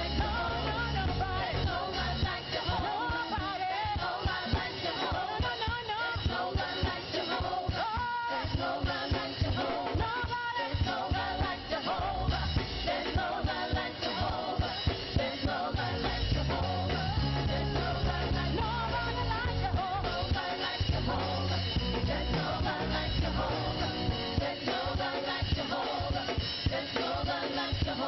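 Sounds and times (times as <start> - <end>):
full band playing: 0.0 - 28.0
gospel singing: 0.0 - 28.0.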